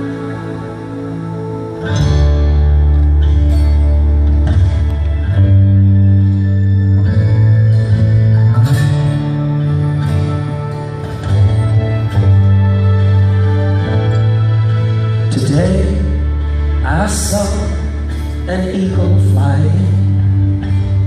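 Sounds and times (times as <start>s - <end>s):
acoustic guitar chords strummed: 1.8s - 21.0s.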